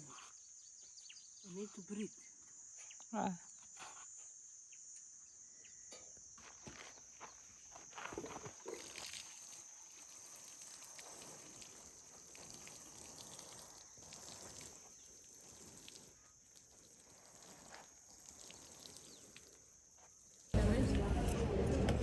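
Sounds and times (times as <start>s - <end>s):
high-pitched insect drone: 0.0s - 20.5s.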